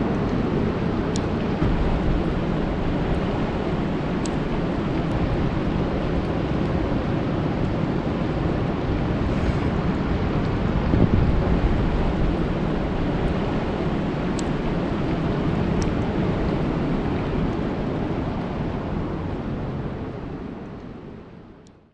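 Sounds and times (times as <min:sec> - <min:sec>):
rain falling on a lake: 0:00.0 - 0:21.6.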